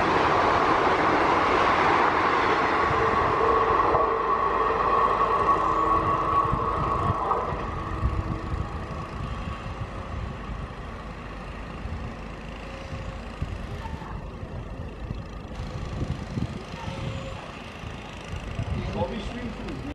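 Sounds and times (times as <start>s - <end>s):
passenger train rumbling past: 0.0s - 19.9s.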